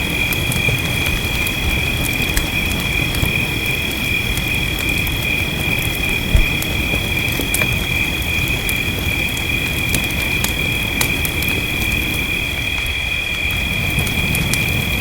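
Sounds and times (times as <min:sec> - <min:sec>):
fireplace crackling: 0:00.0 - 0:14.9
rain rushing: 0:00.0 - 0:15.0.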